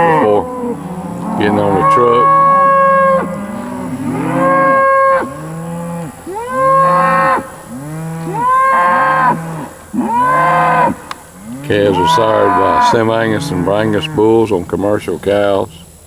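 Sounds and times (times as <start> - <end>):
cattle mooing: 0.0 - 16.0.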